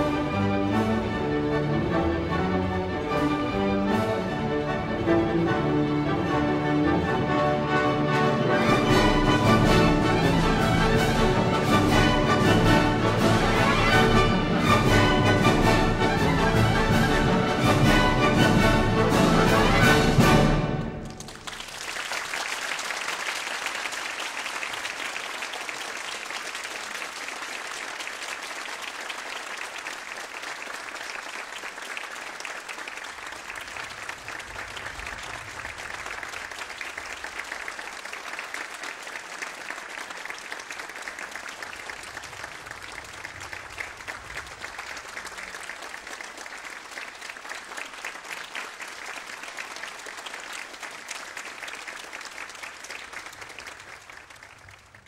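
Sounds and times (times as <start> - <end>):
audience applauding: 6.3 - 55.0.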